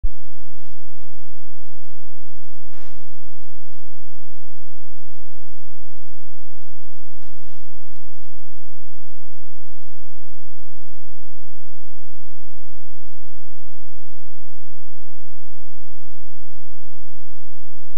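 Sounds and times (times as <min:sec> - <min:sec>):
electrical mains hum and buzz: 0:00.1 - 0:17.9.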